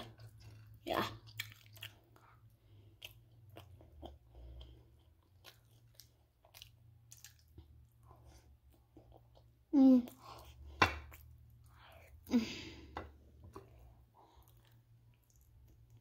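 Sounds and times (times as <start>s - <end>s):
child chewing crunchy food: 0.0s - 16.0s.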